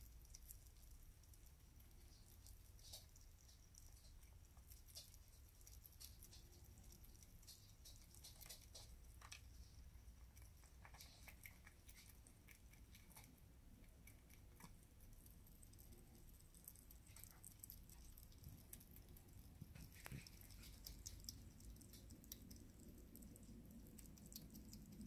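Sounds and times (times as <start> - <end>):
small animal chewing clicks: 0.0 - 25.0.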